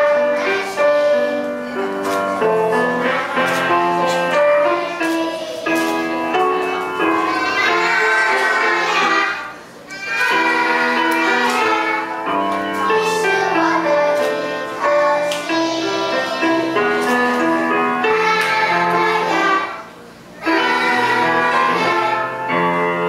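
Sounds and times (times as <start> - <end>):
children singing: 0.0 - 22.6
keyboard backing music: 0.0 - 23.0.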